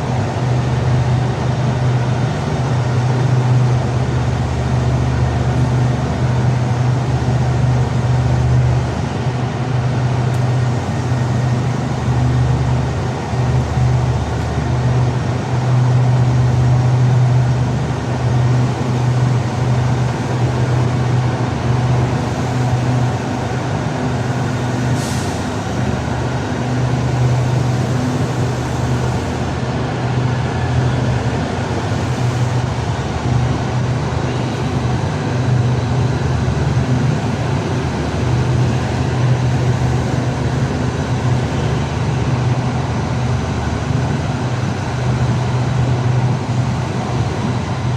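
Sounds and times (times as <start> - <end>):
train running: 0.0 - 47.9.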